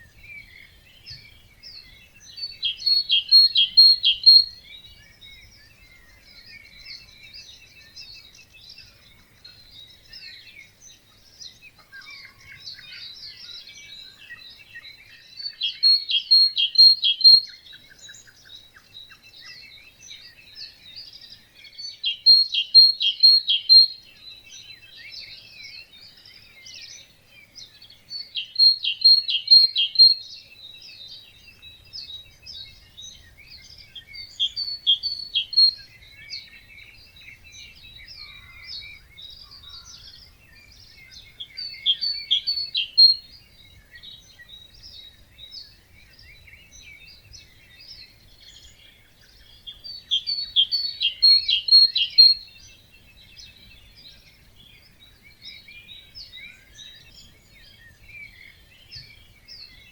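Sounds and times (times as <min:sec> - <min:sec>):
bird repeating song phrase: 0:00.0 - 0:59.9
birds chirping: 0:00.0 - 0:59.9.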